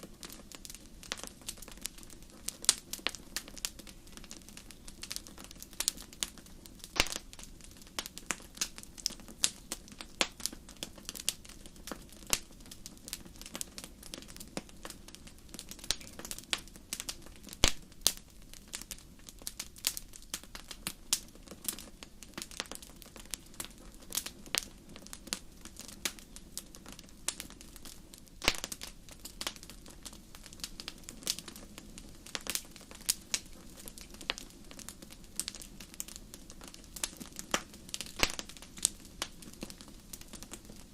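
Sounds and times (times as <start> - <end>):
flames rumbling: 0.0 - 40.9
wood fire crackling: 0.0 - 40.9.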